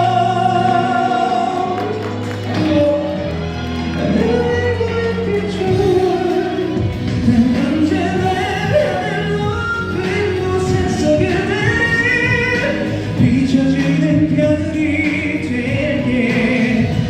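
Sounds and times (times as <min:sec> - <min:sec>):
ballad backing track: 0:00.0 - 0:17.0
man singing: 0:00.0 - 0:17.0.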